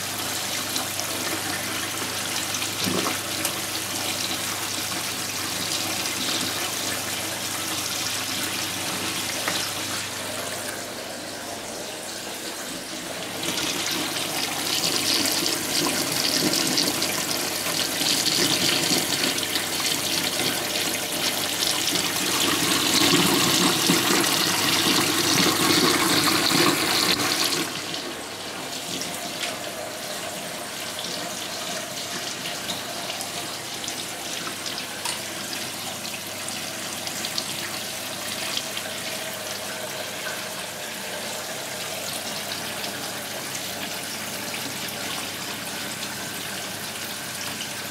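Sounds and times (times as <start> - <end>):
water draining into container: 0.0 - 47.9.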